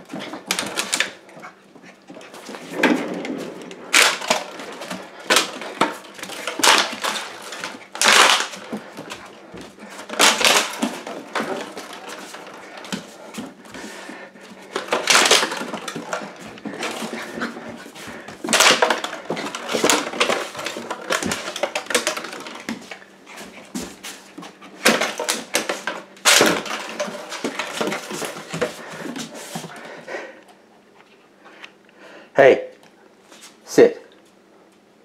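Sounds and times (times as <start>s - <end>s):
dog scrabbling on hardwood floor: 0.0s - 30.0s.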